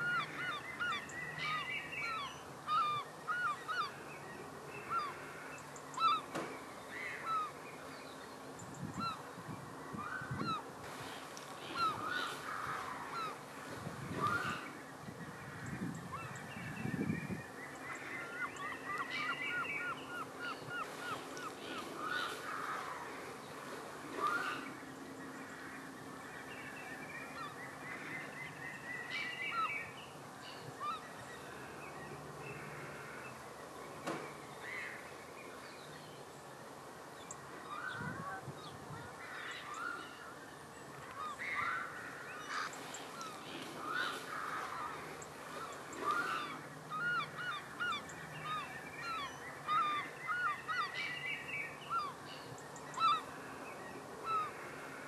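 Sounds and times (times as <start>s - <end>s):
flock of birds calling: 0.0s - 35.6s, 37.3s - 55.0s.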